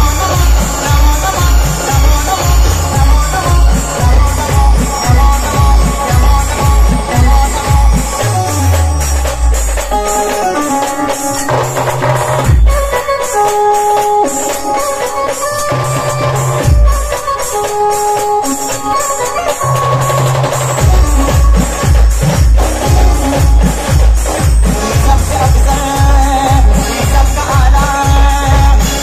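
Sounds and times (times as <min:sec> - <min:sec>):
loud band music over speakers: 0:00.0 - 0:29.0.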